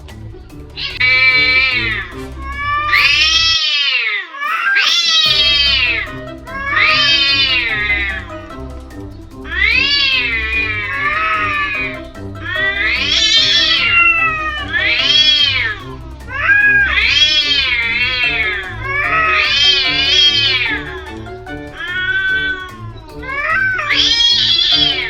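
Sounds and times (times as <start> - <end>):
background music: 0.0 - 3.6, 5.2 - 25.0
cats yowling: 0.8 - 21.0, 21.8 - 25.0.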